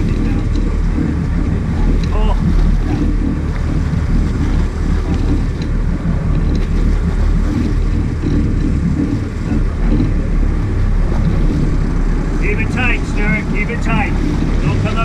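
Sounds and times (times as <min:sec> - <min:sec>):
boat engine running: 0:00.0 - 0:15.0
wind on microphone: 0:00.0 - 0:15.0.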